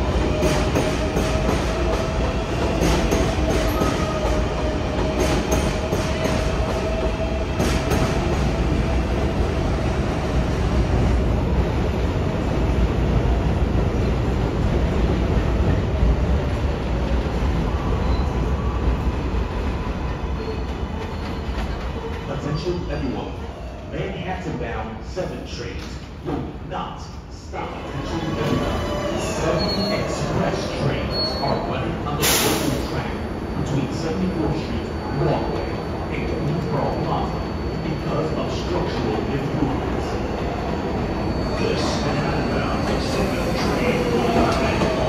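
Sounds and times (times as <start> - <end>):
train wheels rumbling on rail: 0.0 - 23.0, 25.4 - 45.0.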